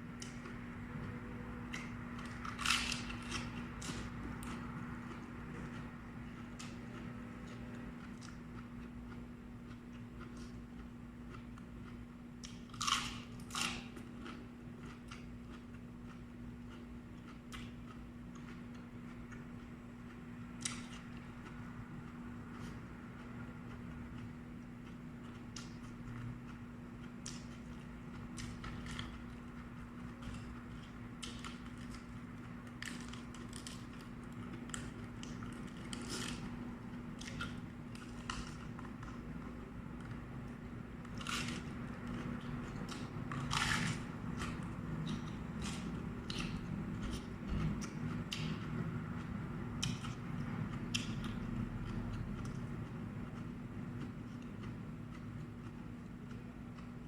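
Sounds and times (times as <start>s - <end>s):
crunchy vegetables being chewed: 0.0s - 57.0s
steady low hum: 0.0s - 57.0s.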